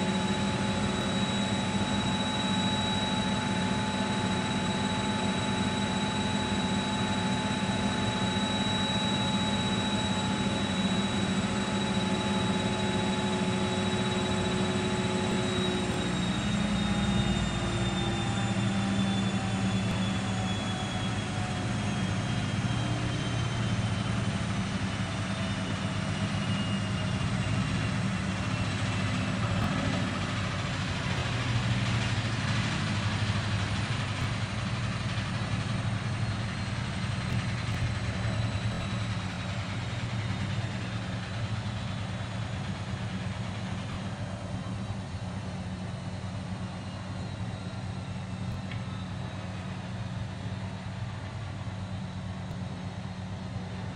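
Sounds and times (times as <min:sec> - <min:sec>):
motor whine falling in pitch: 0:00.0 - 0:53.4
washing machine spinning: 0:00.0 - 0:53.9.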